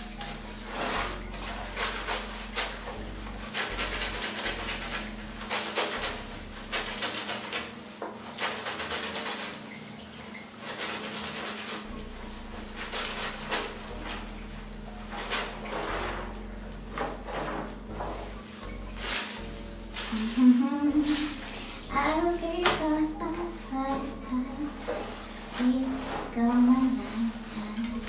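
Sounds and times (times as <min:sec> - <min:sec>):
wet clothes scrubbed by hand: 0:00.0 - 0:28.0.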